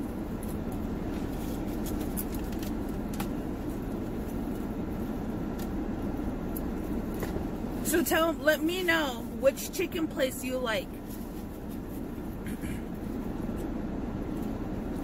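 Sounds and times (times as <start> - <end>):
car air conditioning hum: 0.0 - 15.0.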